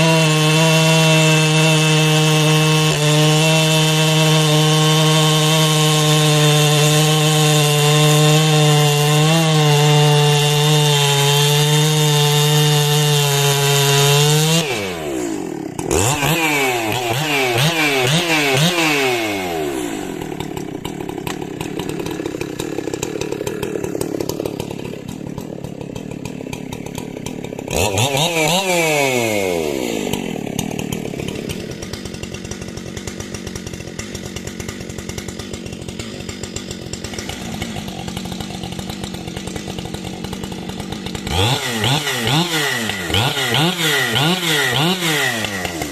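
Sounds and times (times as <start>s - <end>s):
chainsaw engine revving and idling: 0.0s - 45.9s.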